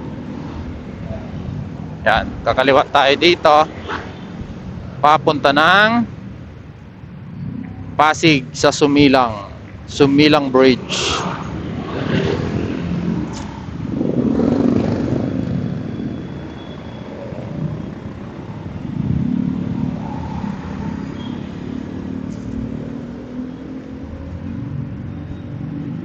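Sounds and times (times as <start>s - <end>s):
road and wind noise: 0.0s - 26.0s
motorcycle engine running: 3.6s - 26.0s.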